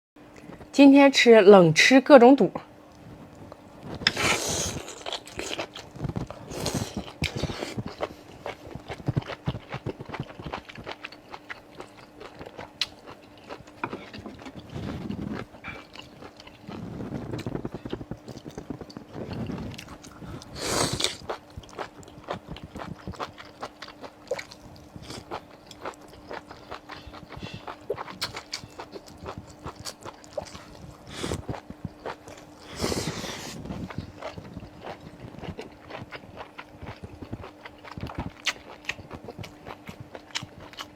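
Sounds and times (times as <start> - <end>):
faint steady hum: 0.2 - 40.9
wet chewing and biting: 3.9 - 32.7, 33.5 - 40.9.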